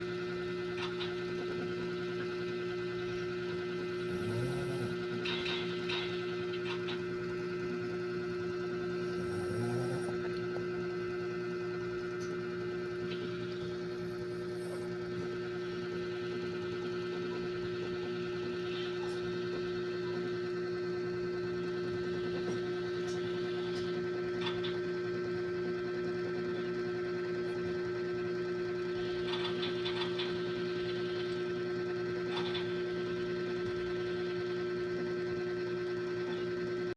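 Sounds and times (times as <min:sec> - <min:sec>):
steady machine hum: 0:00.0 - 0:36.9.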